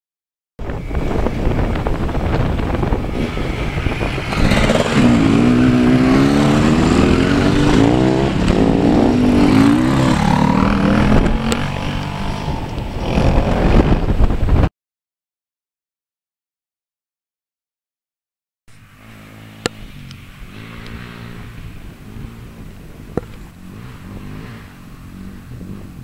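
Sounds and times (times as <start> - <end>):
motorcycles in background: 0.6 - 14.5, 18.7 - 26.0
motorcycle engine passing close: 0.6 - 14.6, 18.7 - 26.0.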